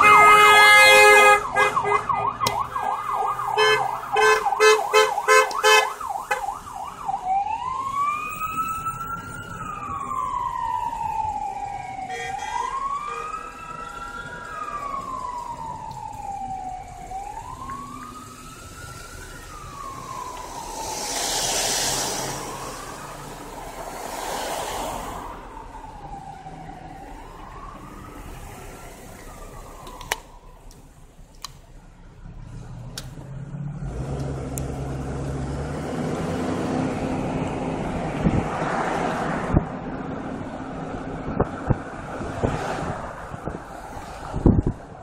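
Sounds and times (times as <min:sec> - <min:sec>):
emergency siren wailing: 0:00.0 - 0:31.3, 0:33.5 - 0:45.0
passing traffic rumble: 0:00.0 - 0:45.0.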